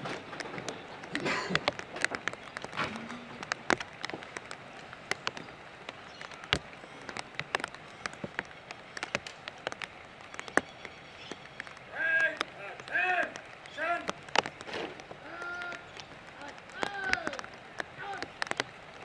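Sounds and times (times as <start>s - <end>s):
raindrops ticking: 0.0s - 19.0s
soft rain hiss: 0.0s - 19.0s.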